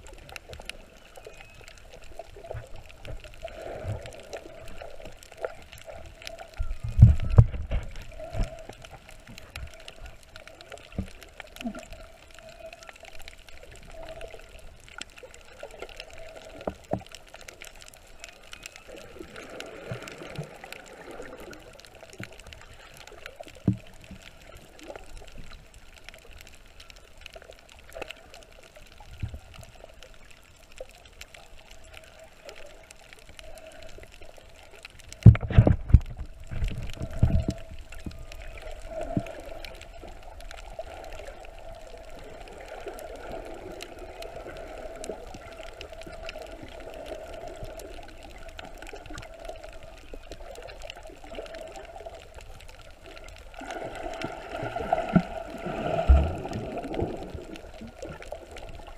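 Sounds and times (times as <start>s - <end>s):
underwater gurgling and trickling: 0.0s - 58.9s.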